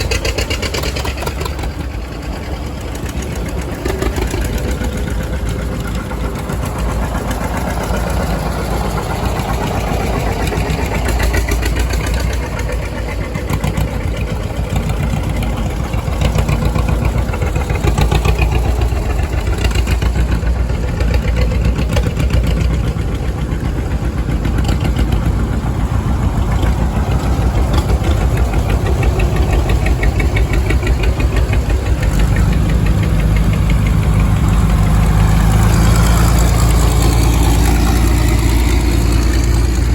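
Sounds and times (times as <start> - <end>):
tractor engines chugging: 0.0 - 39.9.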